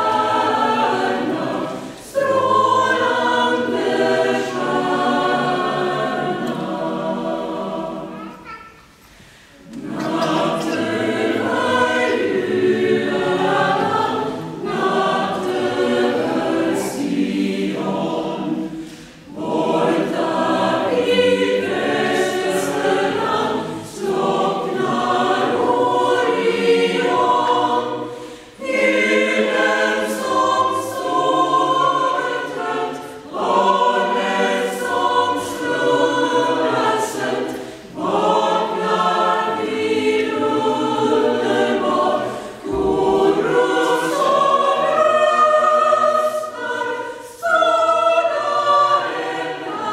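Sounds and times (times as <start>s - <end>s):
mixed choir singing: 0.0s - 8.5s, 9.1s - 49.9s.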